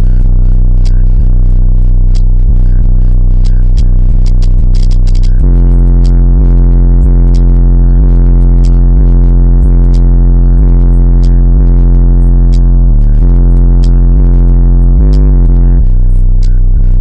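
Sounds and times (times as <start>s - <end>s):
bass-heavy electronic music: 0.0s - 17.0s.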